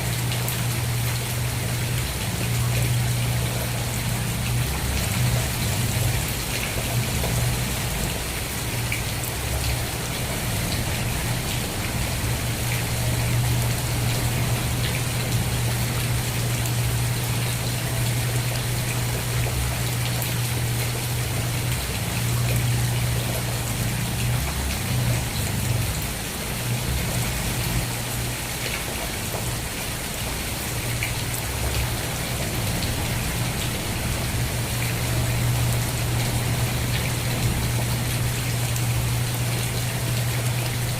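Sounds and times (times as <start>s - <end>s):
rain hissing: 0.0s - 40.9s
raindrops ticking on surface: 0.0s - 40.9s.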